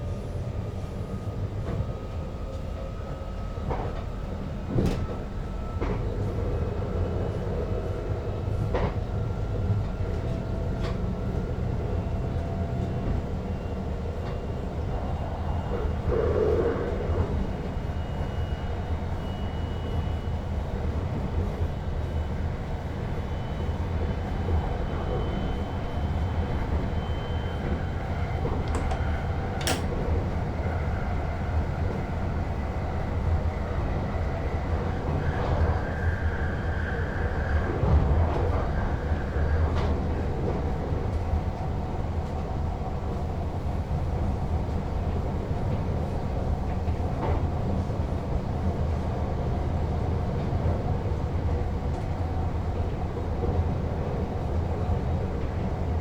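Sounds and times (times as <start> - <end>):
train rumble on rails: 0.0 - 56.0.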